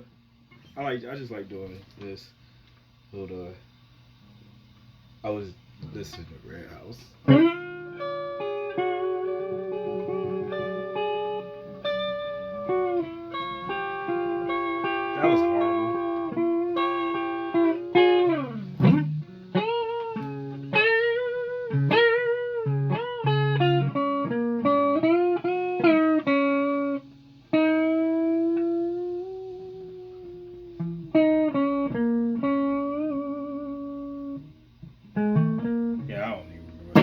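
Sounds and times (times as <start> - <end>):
electric guitar lead phrases: 4.1 - 37.0.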